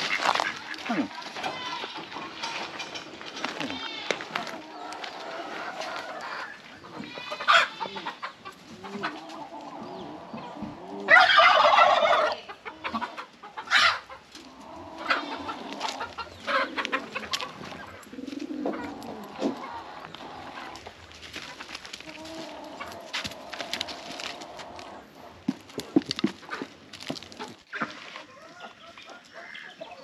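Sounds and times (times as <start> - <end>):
chickens and turkeys clucking: 0.0 - 30.0.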